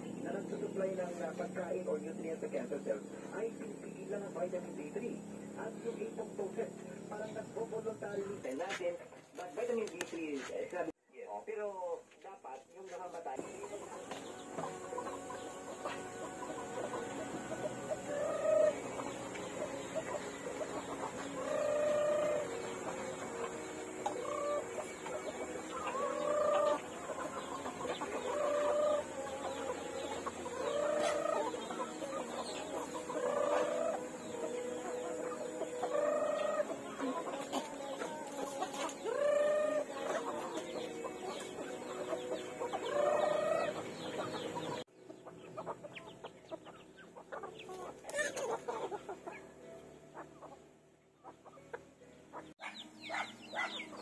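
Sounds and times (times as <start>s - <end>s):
chickens clucking: 0.0s - 10.9s, 11.7s - 54.0s.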